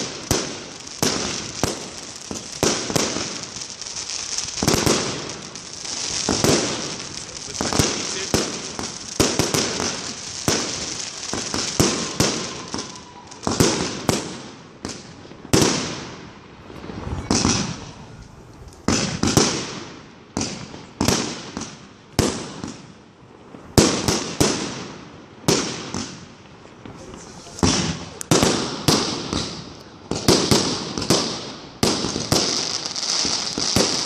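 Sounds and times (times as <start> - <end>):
crackling hiss of fireworks: 0.0 - 34.0
fireworks bangs: 0.0 - 34.0.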